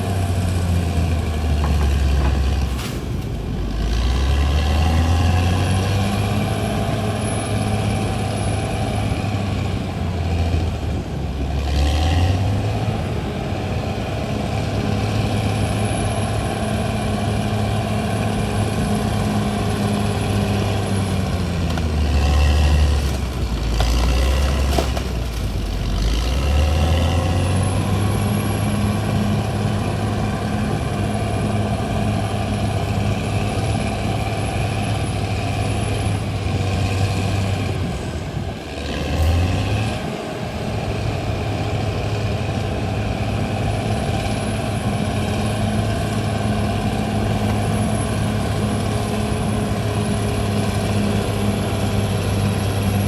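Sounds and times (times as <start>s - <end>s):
bulldozer diesel engine under load: 0.0s - 53.0s.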